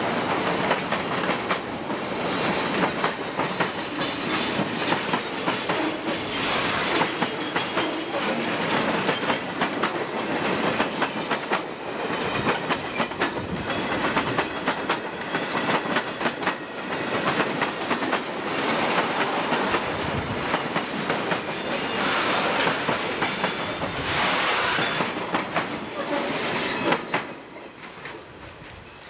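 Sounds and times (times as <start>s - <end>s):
freight train wheels clattering: 0.2s - 29.0s.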